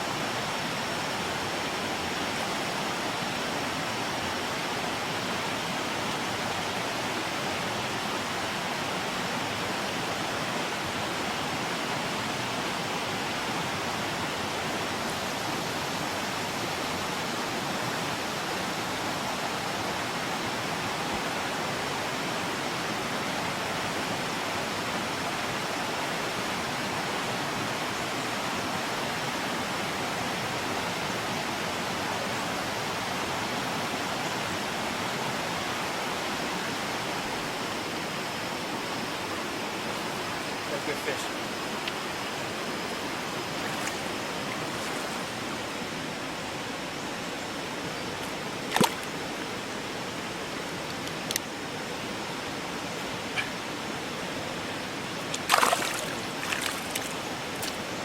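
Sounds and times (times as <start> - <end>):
fast-flowing river water: 0.0 - 58.0.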